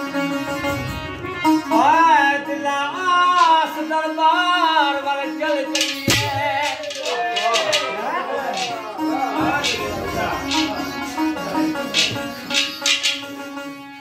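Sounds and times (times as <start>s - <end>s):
sitar playing: 0.0s - 14.0s.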